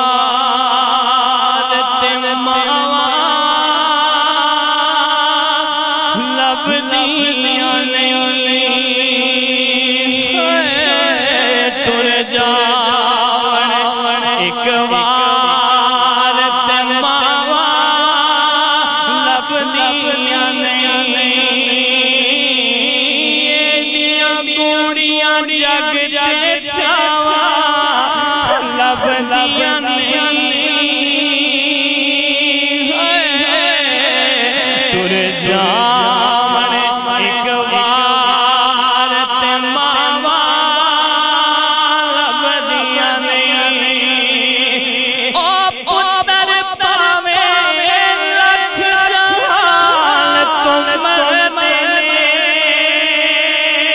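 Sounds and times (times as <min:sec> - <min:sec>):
man singing into a microphone: 0:00.0 - 0:53.9.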